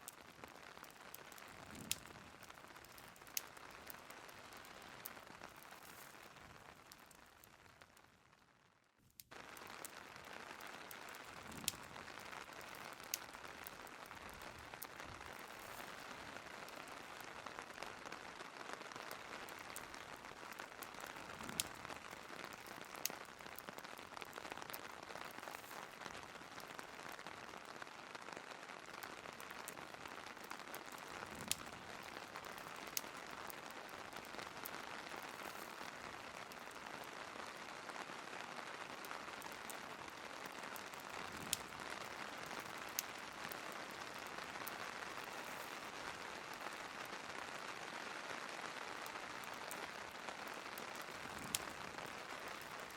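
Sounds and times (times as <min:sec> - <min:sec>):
rain hissing: 0:00.0 - 0:07.9, 0:09.3 - 0:52.9
wood fire crackling: 0:00.0 - 0:52.9.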